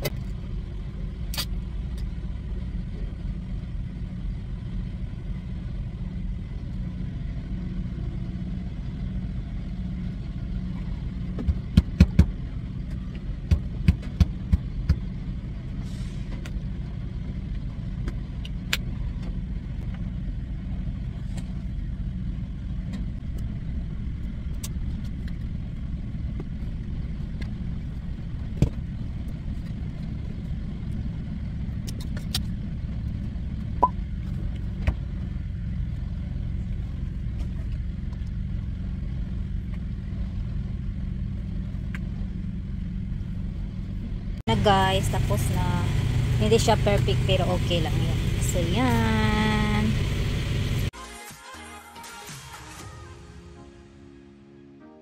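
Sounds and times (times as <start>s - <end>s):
diesel engine rumble: 0.0s - 51.0s.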